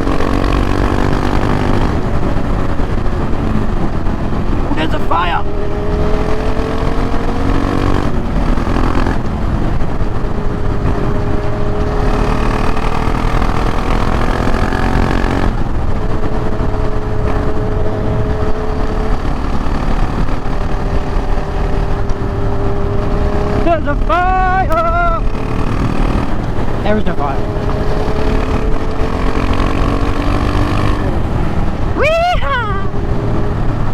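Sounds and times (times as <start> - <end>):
motorcycle engine pulling: 0.0 - 33.9
wind noise on microphone: 0.0 - 33.9.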